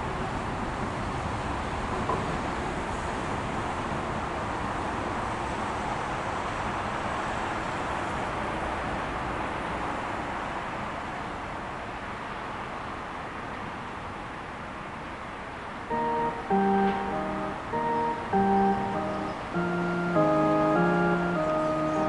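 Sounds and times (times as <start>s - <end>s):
road traffic rush: 0.1s - 22.0s.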